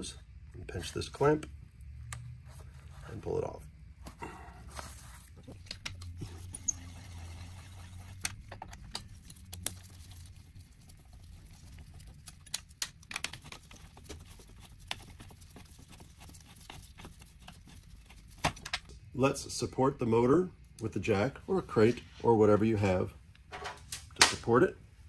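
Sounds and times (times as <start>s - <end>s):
faint low hum: 0.0s - 23.8s.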